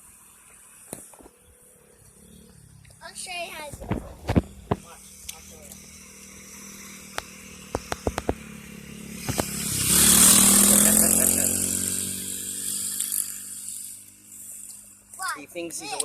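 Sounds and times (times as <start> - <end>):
dirt bike engine revving past: 1.8 - 15.0.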